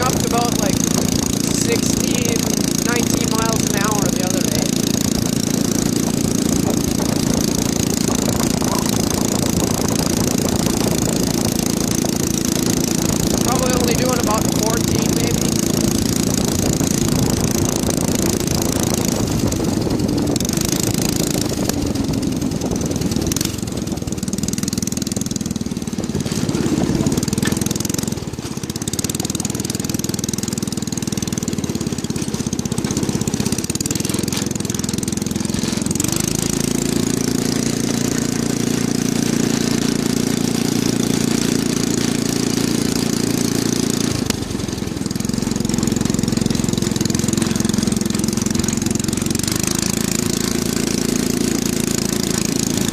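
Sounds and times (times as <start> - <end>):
go-kart engine running: 0.0 - 52.9.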